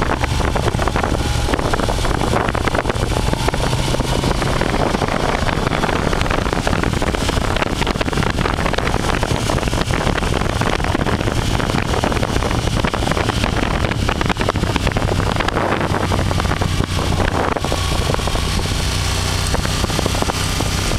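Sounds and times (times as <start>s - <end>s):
engine drone: 0.0s - 20.9s
wind noise on microphone: 0.0s - 20.9s.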